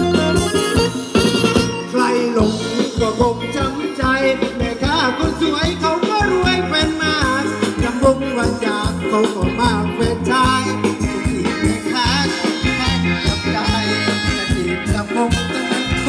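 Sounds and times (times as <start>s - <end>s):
band music over loudspeakers: 0.0s - 16.0s
steady drum beat: 0.0s - 16.0s.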